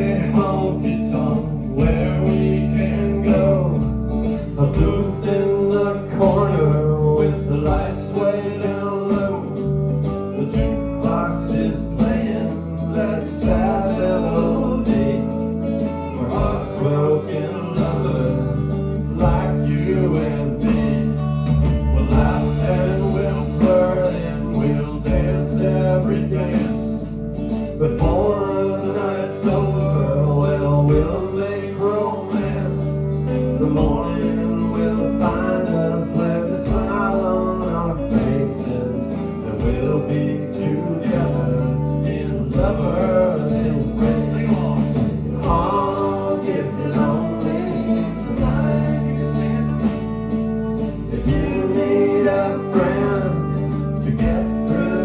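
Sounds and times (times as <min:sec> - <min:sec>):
live band playing country music: 0:00.0 - 0:55.0.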